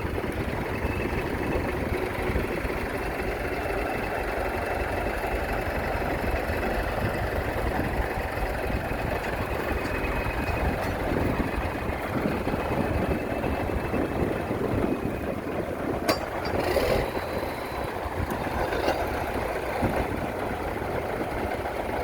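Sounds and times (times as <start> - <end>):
diesel engine low rumble: 0.0 - 22.0.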